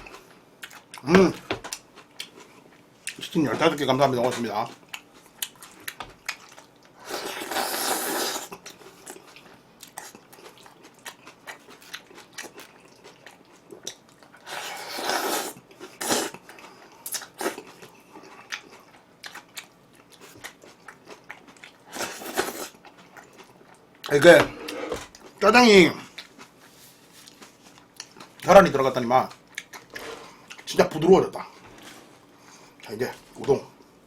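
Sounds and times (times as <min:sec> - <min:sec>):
person chewing food: 0:00.0 - 0:03.3, 0:04.6 - 0:25.4, 0:26.0 - 0:28.5, 0:29.2 - 0:30.7.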